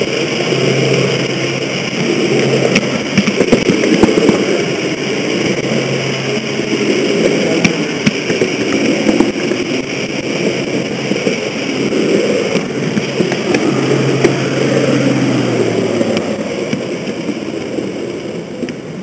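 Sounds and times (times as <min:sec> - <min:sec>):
low hum: 0:00.0 - 0:19.0
model train rumbling on track: 0:00.0 - 0:19.0.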